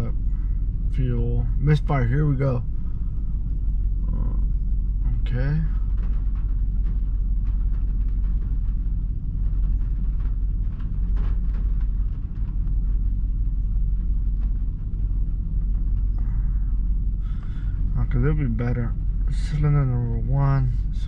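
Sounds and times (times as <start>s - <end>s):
faint irregular engine ticks: 0.0s - 21.0s
misfiring engine rumbling: 0.0s - 21.0s.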